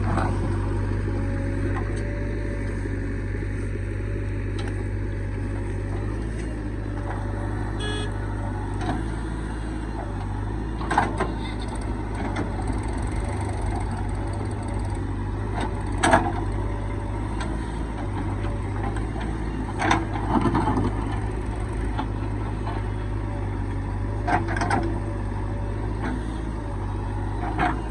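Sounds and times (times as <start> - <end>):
heavy diesel engine droning: 0.0 - 27.9.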